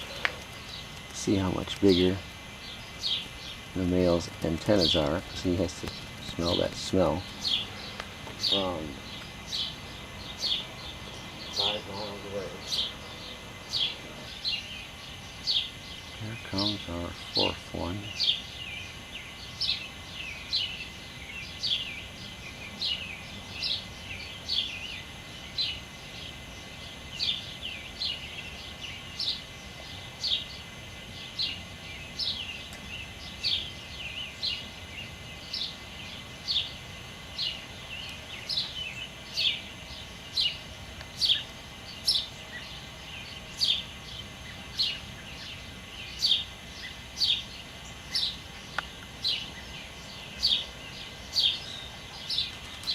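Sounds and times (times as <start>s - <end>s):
faint outdoor background: 0.0s - 52.9s
songbird chirping: 0.0s - 52.9s.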